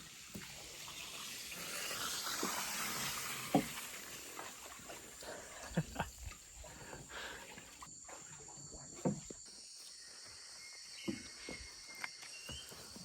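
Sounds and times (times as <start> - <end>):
insects droning: 1.5 - 13.0.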